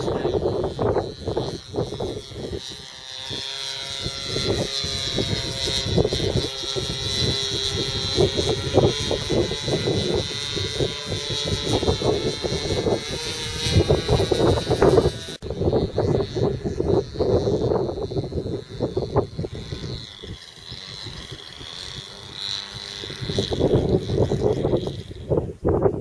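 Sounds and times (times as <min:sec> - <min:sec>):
autogyro flying overhead: 0:00.0 - 0:26.0.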